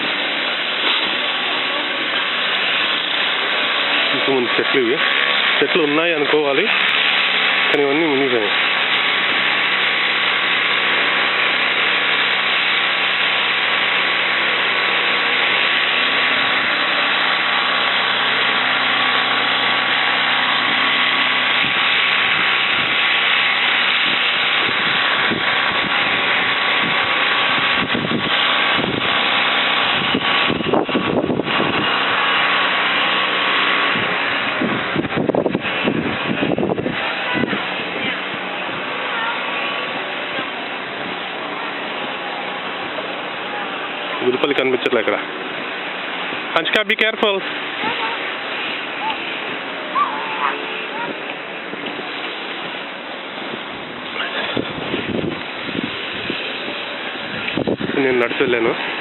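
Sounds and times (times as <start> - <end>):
small motor running: 0.0 - 59.0.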